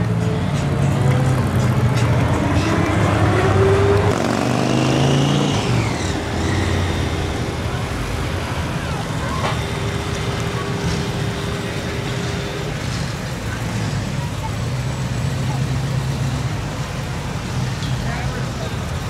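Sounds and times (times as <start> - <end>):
car engines in slow traffic: 0.0 - 19.0.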